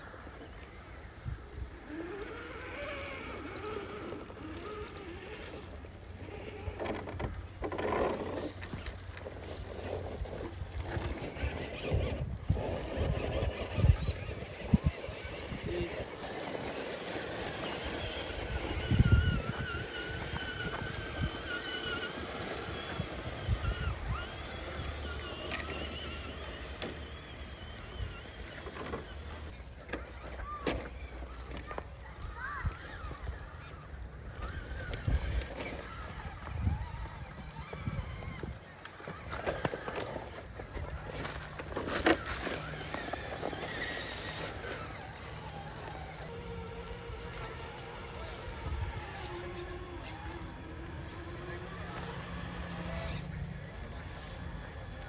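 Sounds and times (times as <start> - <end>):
electric motor whining: 1.2 - 55.0.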